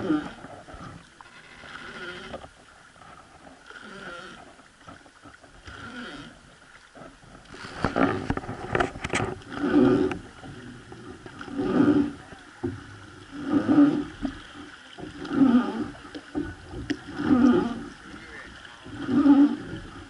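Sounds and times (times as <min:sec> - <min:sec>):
oar creaking against mounting: 0:00.0 - 0:20.0
oar splashing: 0:00.0 - 0:20.0
water washing along hull: 0:00.0 - 0:20.0.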